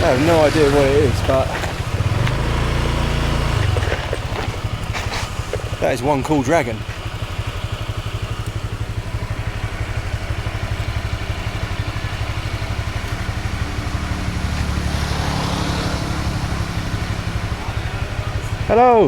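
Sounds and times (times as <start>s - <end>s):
motorbike engine idling: 0.0s - 19.0s.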